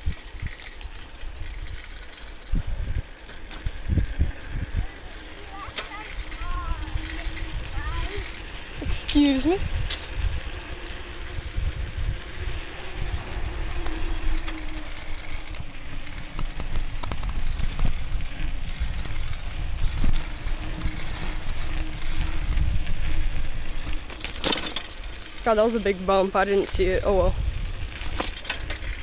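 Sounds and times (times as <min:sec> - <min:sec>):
wind rushing over microphone: 0:00.0 - 0:24.0, 0:25.4 - 0:29.0
bicycle tyres rumbling: 0:00.0 - 0:29.0
bike rattles and knocks: 0:00.0 - 0:29.0.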